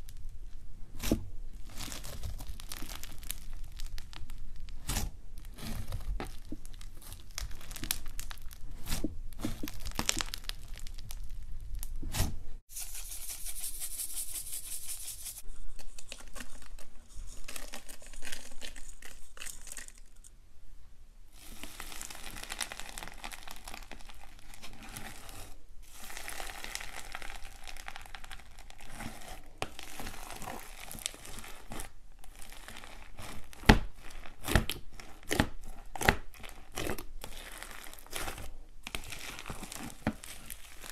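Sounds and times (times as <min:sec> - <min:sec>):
slime crackling and squishing: 0:00.0 - 0:12.3, 0:16.2 - 0:20.3, 0:21.3 - 0:40.9.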